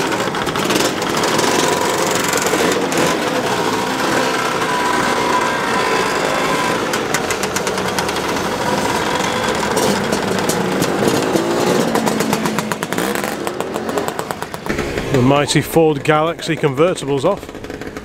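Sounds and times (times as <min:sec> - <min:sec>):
scooter engines pulling away: 0:00.0 - 0:18.0.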